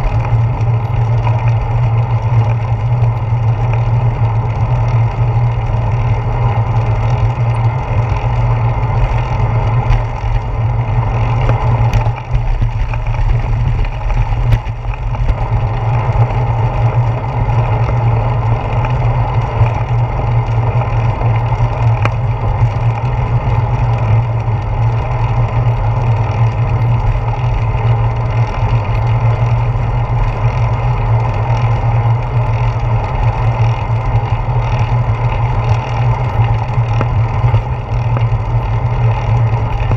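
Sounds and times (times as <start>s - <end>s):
bicycle tyres on pavement: 0.0s - 39.9s.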